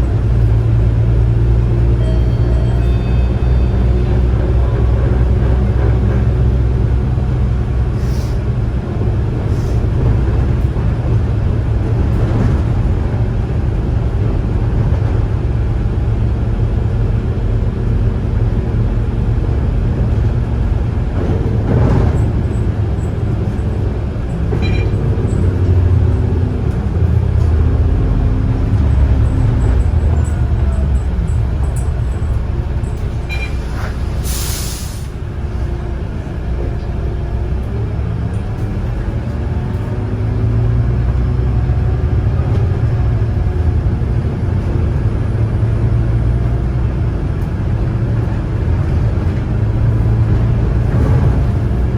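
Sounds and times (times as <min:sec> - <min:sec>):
bus drivetrain rumble: 0:00.0 - 0:51.9.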